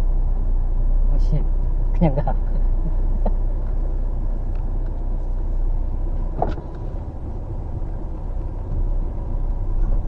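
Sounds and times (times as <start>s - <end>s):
vehicle engine low hum: 0.0s - 10.0s.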